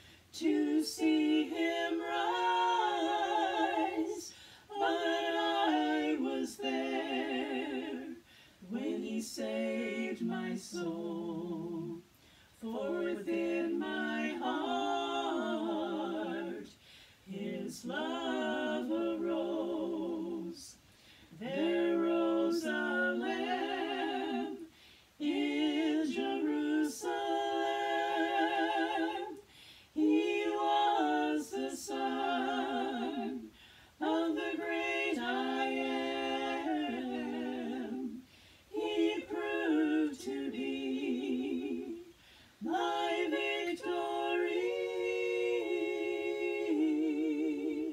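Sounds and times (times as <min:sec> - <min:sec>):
women singing a cappella harmony: 0:00.0 - 0:47.9.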